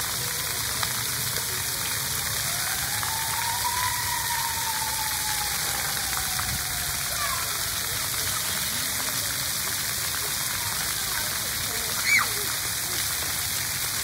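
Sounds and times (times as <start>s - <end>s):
fountain water spraying on concrete: 0.0s - 14.0s.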